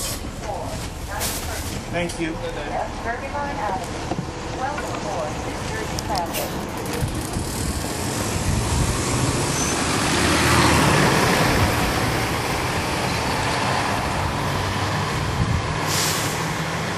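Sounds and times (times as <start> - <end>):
bus diesel engine running: 0.0 - 16.9
road noise: 0.0 - 16.9.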